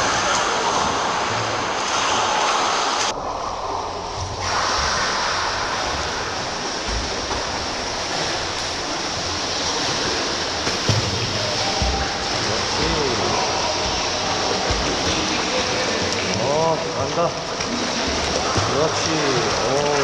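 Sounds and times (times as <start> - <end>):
water splashing in swimming pool: 0.0 - 20.0.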